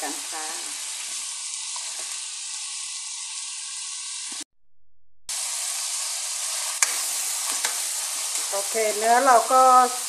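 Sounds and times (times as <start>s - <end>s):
meat sizzling in a pan: 0.0s - 4.5s, 5.3s - 10.0s.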